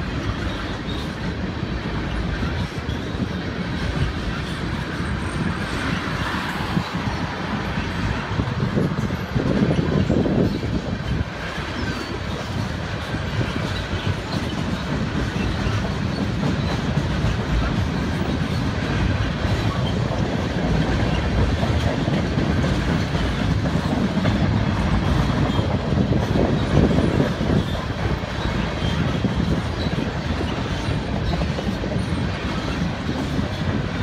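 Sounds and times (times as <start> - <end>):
train rumbling past: 0.0 - 34.0
wheels clicking over rail joints: 0.0 - 34.0.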